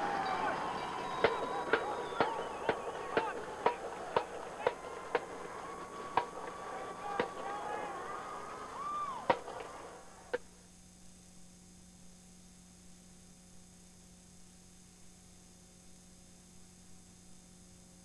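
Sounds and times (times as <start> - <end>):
low electrical hum with hiss: 0.0 - 18.0.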